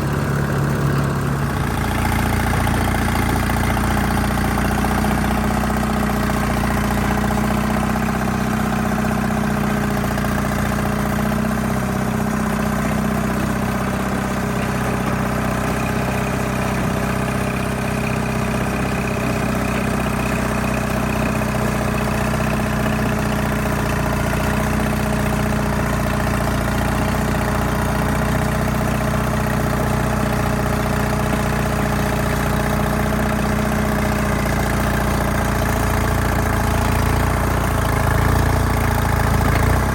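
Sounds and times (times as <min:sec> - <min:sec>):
bulldozer diesel engine idling: 0:00.0 - 0:39.9.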